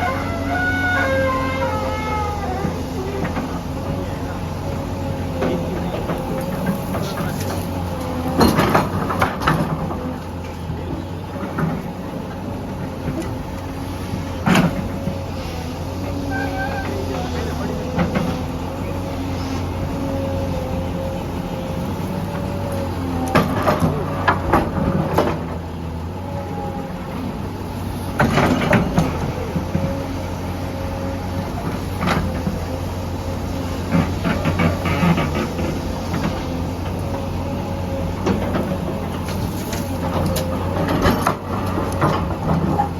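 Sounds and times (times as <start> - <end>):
excavator running: 0.0 - 42.9.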